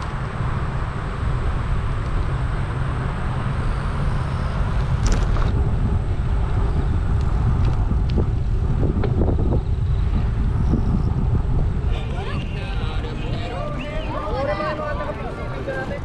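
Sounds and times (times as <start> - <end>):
bike tyre rumble on pavement: 0.0 - 16.0
wind over microphone: 0.0 - 16.0.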